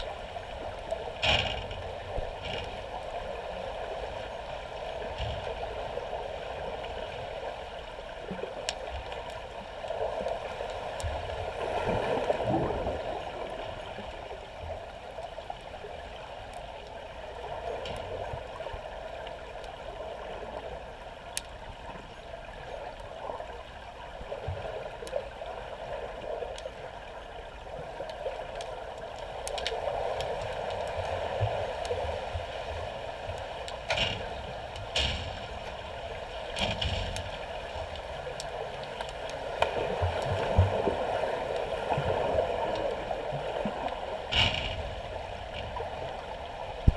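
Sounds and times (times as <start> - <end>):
underwater churning water and bubbles: 0.0 - 46.9.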